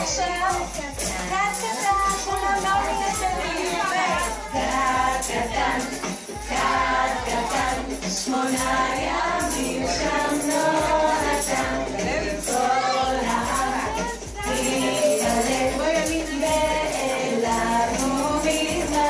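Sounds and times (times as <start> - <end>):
group singing over music: 0.0 - 19.0
jingling percussion: 0.0 - 19.0.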